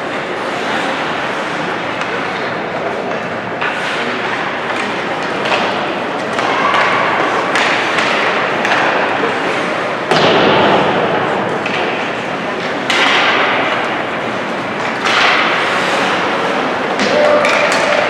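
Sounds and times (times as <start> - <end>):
skating and arena noise: 0.0 - 18.0.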